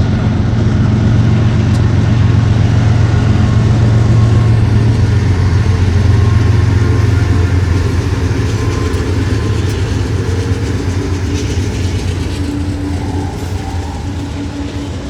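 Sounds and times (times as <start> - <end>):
diesel locomotive engine drone: 0.0 - 15.0
train wheels clattering: 0.5 - 15.0
faint steady squeal: 1.2 - 15.0.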